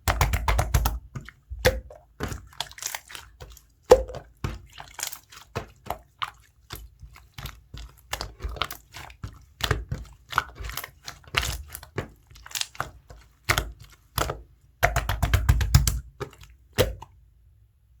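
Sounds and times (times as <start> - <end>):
slime squished by hand: 0.0 - 17.2.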